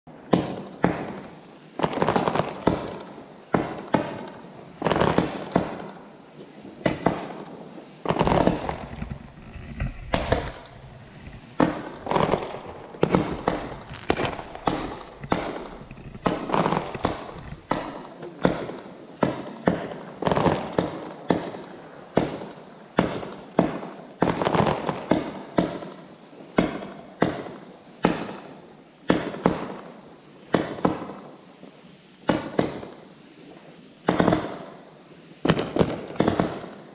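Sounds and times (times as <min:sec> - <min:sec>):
fireworks bangs: 0:00.1 - 0:31.3, 0:34.0 - 0:34.8, 0:35.4 - 0:36.9.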